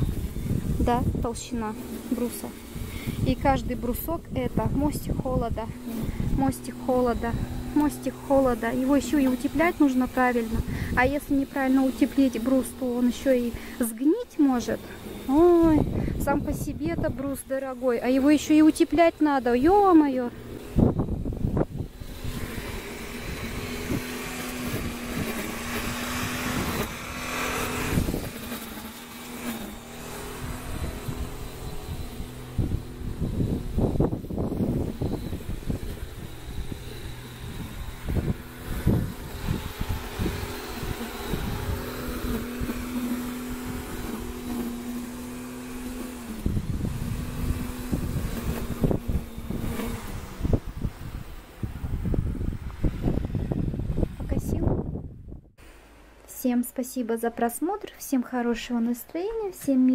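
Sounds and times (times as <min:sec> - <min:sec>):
wind buffeting microphone: 0:00.0 - 0:55.6
steady engine hum: 0:00.0 - 0:56.3.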